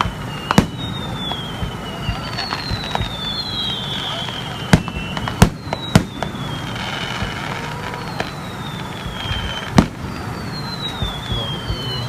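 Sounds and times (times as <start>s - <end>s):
fireworks bang: 0.0s - 12.0s
fireworks crackling: 0.0s - 12.0s
fireworks whistling: 0.0s - 12.0s.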